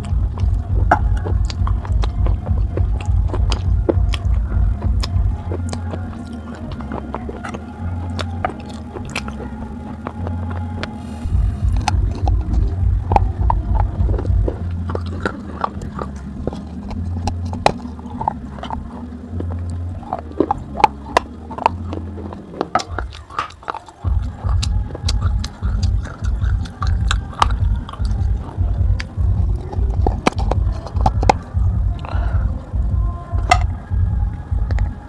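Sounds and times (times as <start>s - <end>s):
low pulsing music beat: 0.0s - 35.0s
teeth crunching dry clay: 0.0s - 35.0s.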